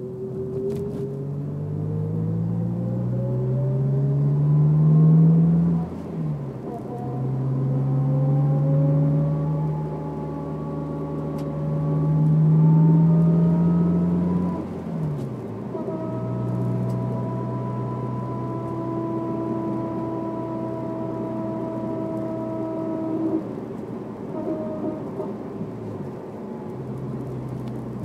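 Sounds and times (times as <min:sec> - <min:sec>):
car engine pulling while driving: 0:00.0 - 0:28.0.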